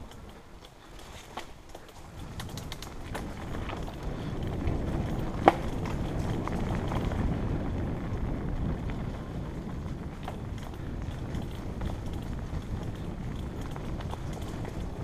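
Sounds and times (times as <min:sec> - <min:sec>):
bike rattling clicks: 0:00.0 - 0:15.0
bike tyres rumbling on dirt: 0:00.0 - 0:15.0.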